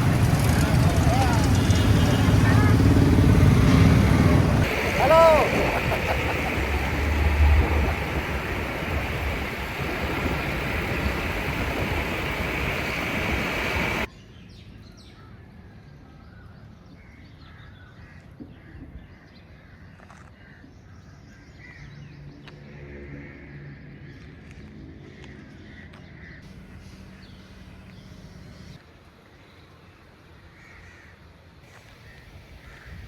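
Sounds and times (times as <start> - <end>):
busy city road traffic: 0.0 - 18.4, 21.8 - 33.0.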